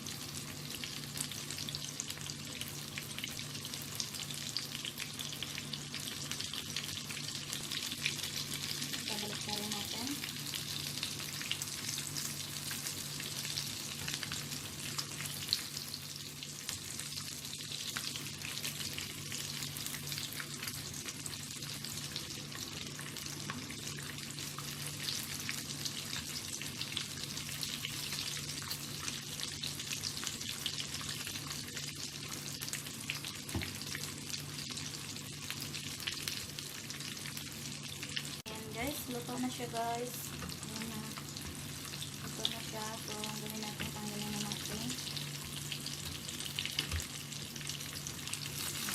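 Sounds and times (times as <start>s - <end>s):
fish frying in hot oil: 0.0s - 48.9s.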